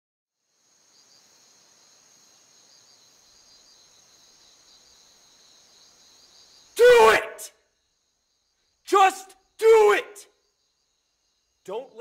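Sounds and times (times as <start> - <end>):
crickets chirping: 0.4 - 12.0
low hiss: 0.4 - 12.0.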